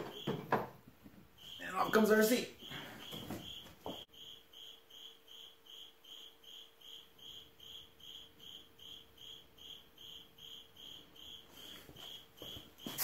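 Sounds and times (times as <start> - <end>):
insect chirping: 0.0 - 0.7, 1.3 - 13.0
faint steady hum: 0.0 - 13.0.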